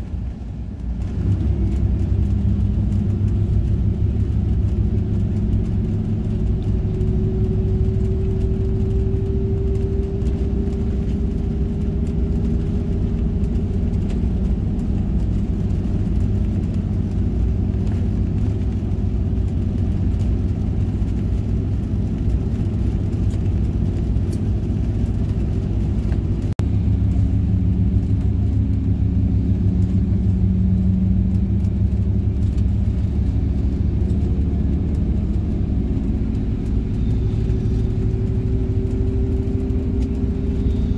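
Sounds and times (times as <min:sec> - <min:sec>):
bus engine and tyres droning: 0:00.0 - 0:40.9.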